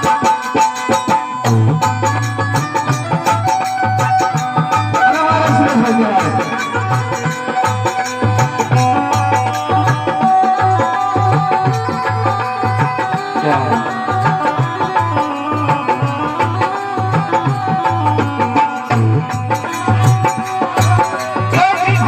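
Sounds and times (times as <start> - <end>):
folk melody with held note: 0.0 - 22.0
hand drum beat: 0.0 - 22.0.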